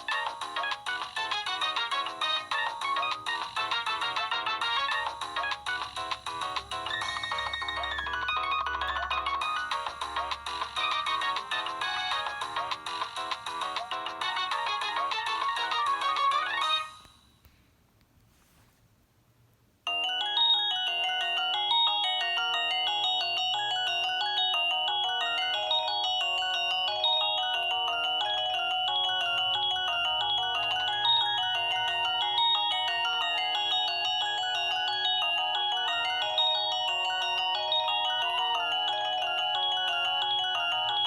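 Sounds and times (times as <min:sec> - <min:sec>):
polyphonic ringtone melody: 0:00.0 - 0:17.0, 0:19.9 - 0:41.0.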